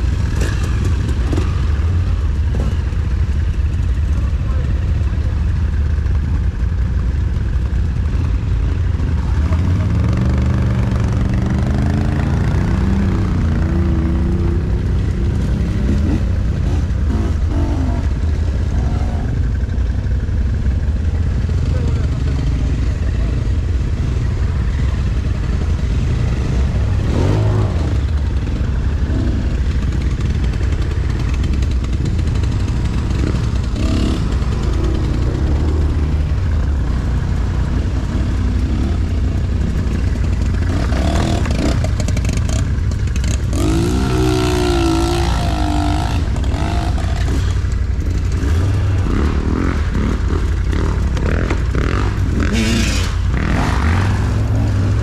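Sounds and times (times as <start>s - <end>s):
dirt bike engines revving: 0.0s - 55.0s
quad bike engines rumbling: 0.0s - 55.0s.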